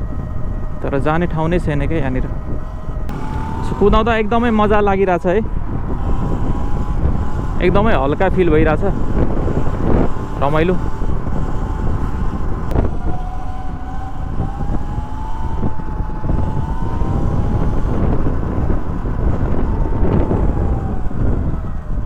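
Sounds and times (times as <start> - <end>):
wind buffeting microphone: 0.0 - 22.0
electric dirt bike motor whining: 2.4 - 22.0.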